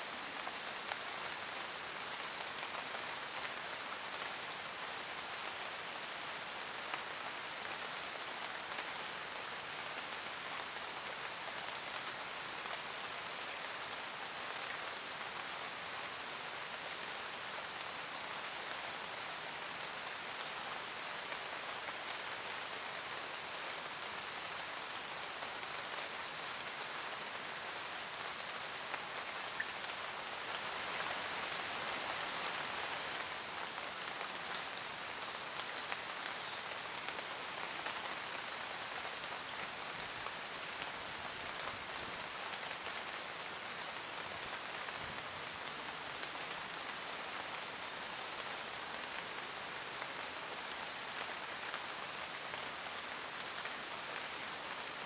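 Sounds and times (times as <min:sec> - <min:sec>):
rain pattering on leaves: 0:00.0 - 0:55.0.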